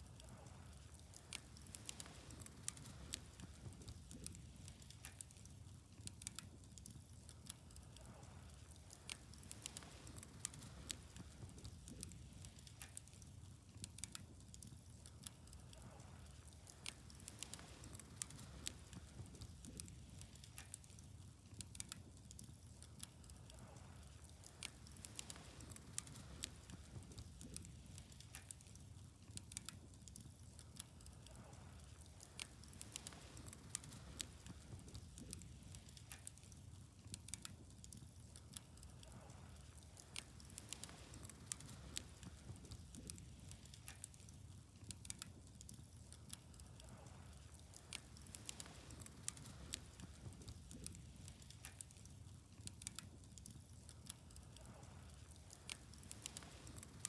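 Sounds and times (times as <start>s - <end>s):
faint wood fire crackling: 0.0s - 57.0s.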